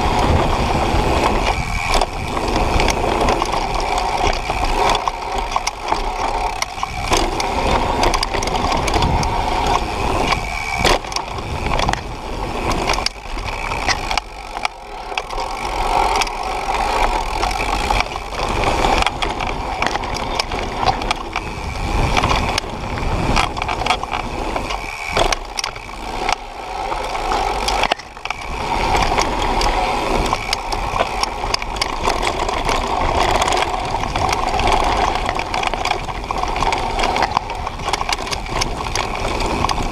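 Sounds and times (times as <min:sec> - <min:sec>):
bike chain and frame rattling: 0:00.0 - 0:39.9
bike tyres roaring on gravel: 0:00.0 - 0:39.9.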